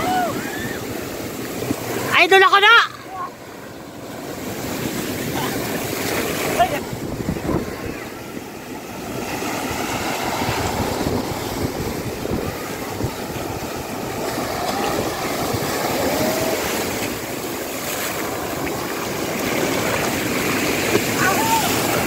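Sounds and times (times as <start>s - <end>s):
waves washing up beach: 0.0s - 22.0s
wind buffeting microphone: 3.7s - 22.0s.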